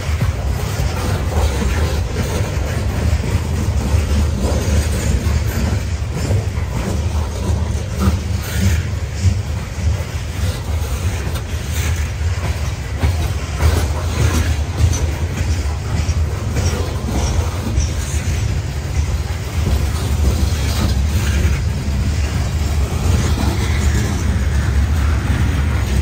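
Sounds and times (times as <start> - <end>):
train cars rumbling on rails: 0.0 - 26.0
wheel clicks and clanks: 0.0 - 26.0.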